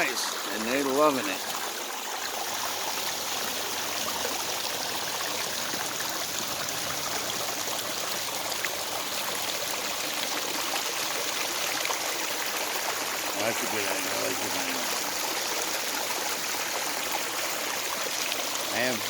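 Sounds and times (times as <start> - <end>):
water splashing over rocks: 0.0 - 19.0.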